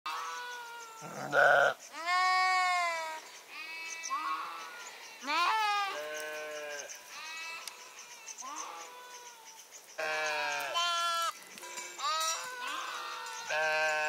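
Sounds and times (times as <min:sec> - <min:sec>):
sheep bleating: 0:00.1 - 0:09.2, 0:10.0 - 0:14.0.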